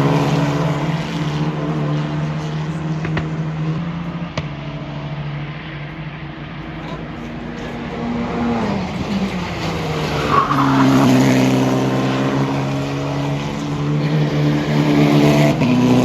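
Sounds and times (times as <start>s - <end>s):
racing car engine: 0.0s - 16.0s.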